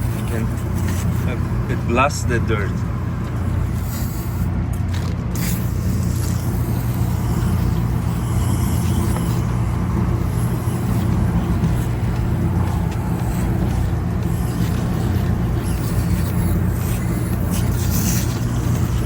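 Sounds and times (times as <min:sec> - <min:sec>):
low hum of hvac machinery: 0:00.0 - 0:19.0.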